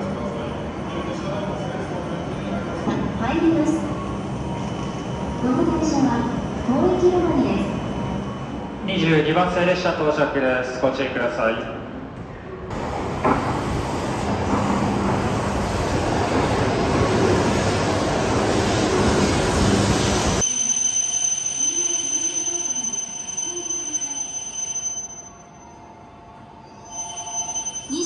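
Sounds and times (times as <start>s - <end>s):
train rushing into platform: 0.0s - 24.7s.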